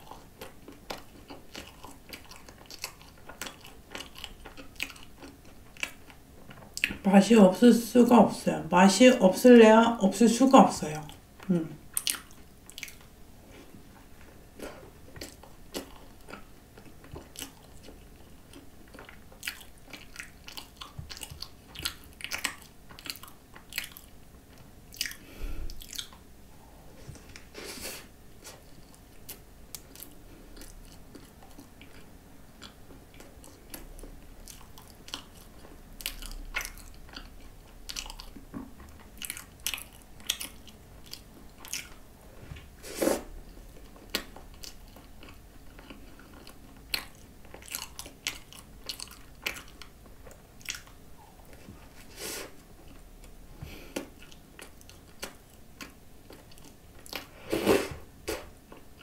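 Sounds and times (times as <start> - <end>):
person chewing pastry: 0.0 - 7.0, 11.0 - 26.3, 27.0 - 42.4, 43.0 - 57.4.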